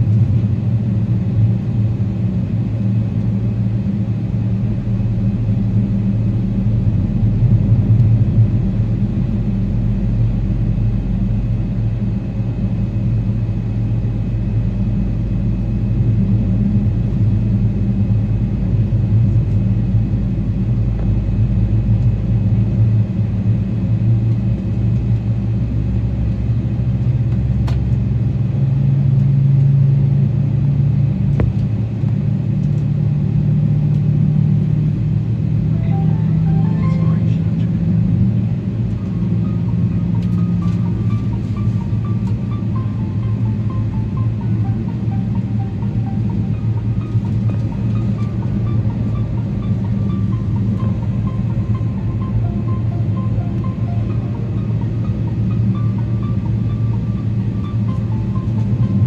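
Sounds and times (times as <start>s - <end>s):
aircraft cabin engine rumble and hum: 0.0s - 59.0s.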